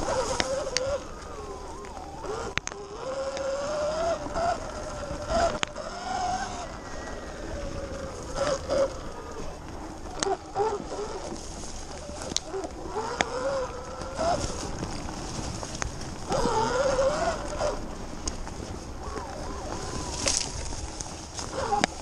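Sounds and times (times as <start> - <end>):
electric motor whining: 0.0 - 22.0
tyre and wind noise: 0.0 - 22.0.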